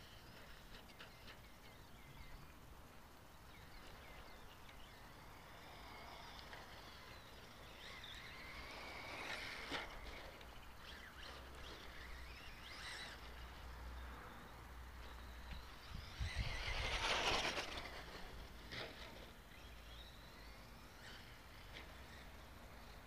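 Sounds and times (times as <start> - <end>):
electric motor whine: 3.5 - 23.0.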